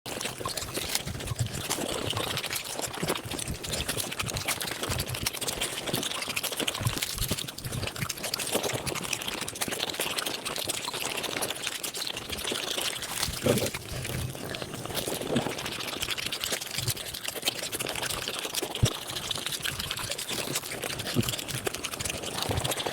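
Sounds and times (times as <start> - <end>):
rapid mouth clicks and smacks: 0.1 - 22.9.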